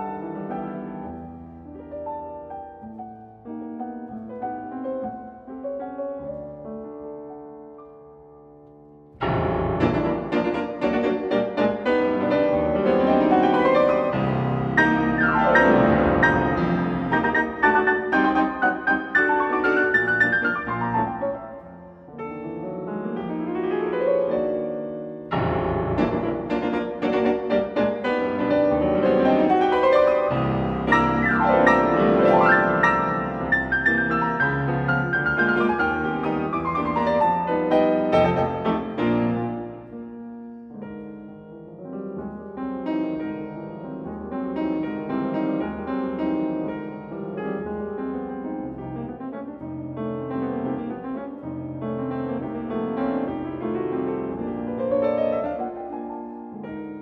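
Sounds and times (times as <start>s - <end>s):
classical solo piano: 0.0s - 57.0s.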